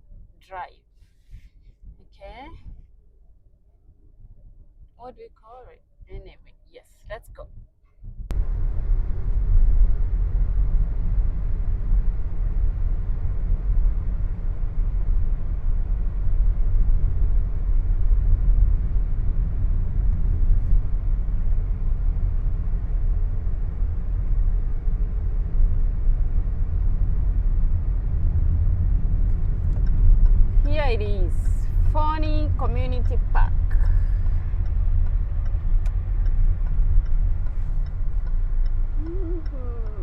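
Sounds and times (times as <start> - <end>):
car road and wind rumble: 0.0 - 40.0.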